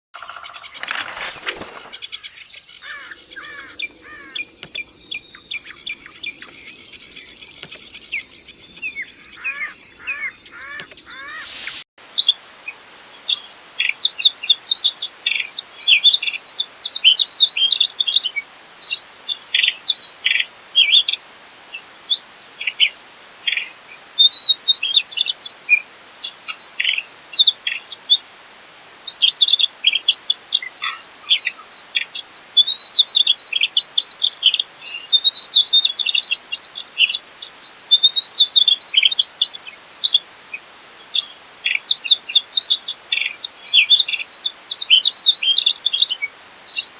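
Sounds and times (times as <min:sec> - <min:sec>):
flycatcher singing chirps and trills: 0:01.8 - 0:46.9.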